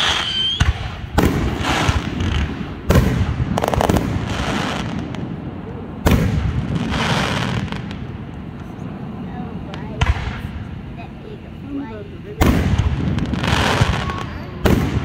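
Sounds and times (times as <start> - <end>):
fireworks bangs with echo: 0.0 - 8.8, 9.4 - 15.0
fireworks crackling: 0.0 - 15.0.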